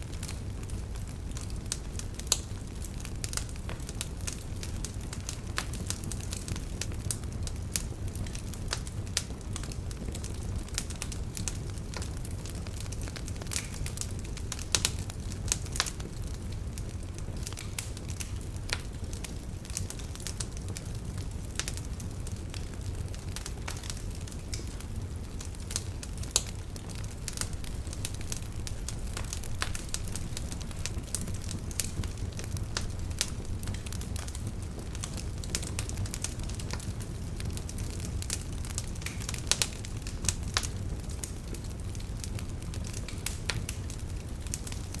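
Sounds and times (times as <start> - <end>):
fire flames rumbling: 0.0 - 45.0
logs crackling and popping: 0.0 - 45.0.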